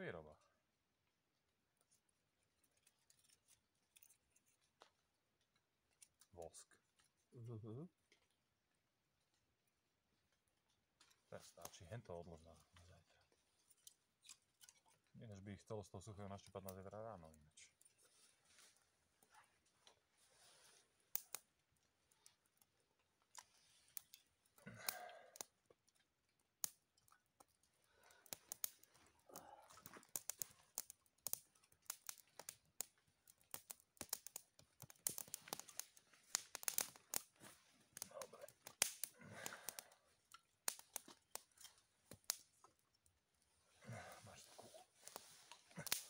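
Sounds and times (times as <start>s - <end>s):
dry kindling crackling and snapping: 1.5s - 7.4s, 8.0s - 46.0s.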